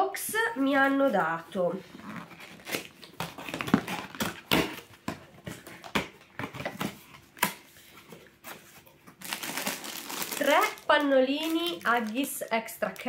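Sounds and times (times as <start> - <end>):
plastic packaging crinkling: 1.8 - 13.0.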